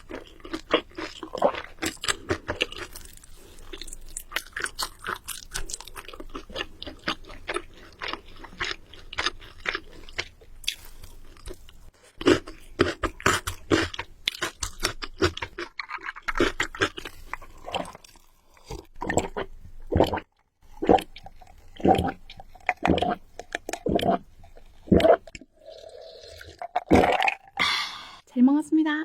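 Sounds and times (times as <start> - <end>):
person chewing crunchy food: 0.0 - 27.5.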